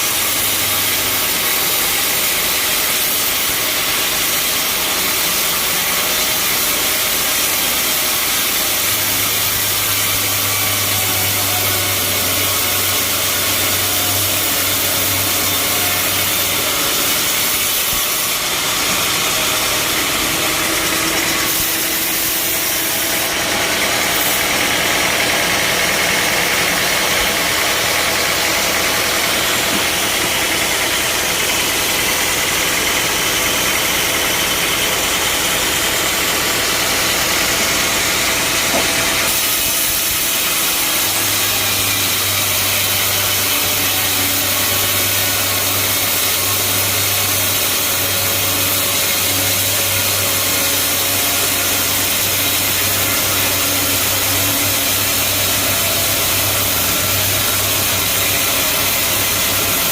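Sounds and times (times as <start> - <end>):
saw blade hiss: 0.0 - 59.9
sawmill engine hum: 0.0 - 59.9.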